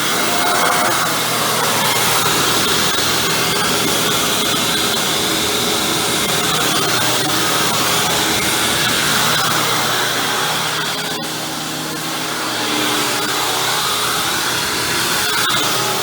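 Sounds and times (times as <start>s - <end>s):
upright vacuum motor whine: 0.0s - 16.0s.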